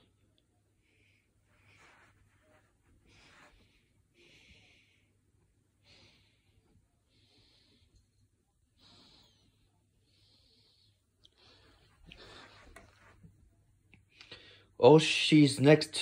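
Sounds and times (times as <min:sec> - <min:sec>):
person breathing softly: 0:00.8 - 0:13.3, 0:14.0 - 0:14.8.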